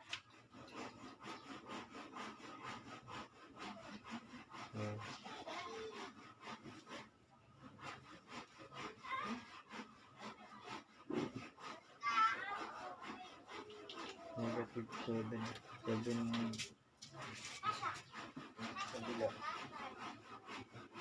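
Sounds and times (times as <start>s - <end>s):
rapid rhythmic scraping: 0.1s - 21.0s.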